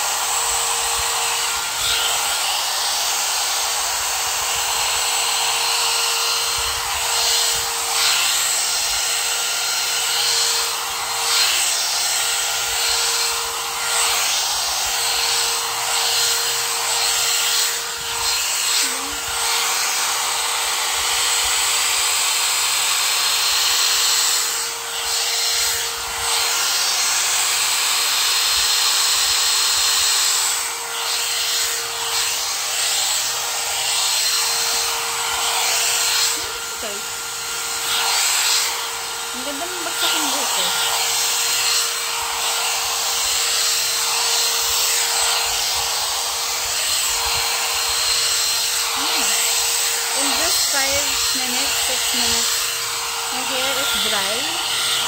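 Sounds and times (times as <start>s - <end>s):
hot air brush blowing: 0.0s - 55.0s.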